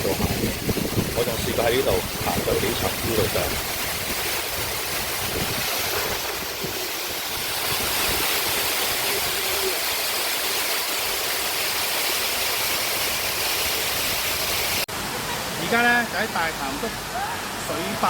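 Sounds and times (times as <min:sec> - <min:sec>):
water rushing over dam spillway: 0:00.0 - 0:18.0.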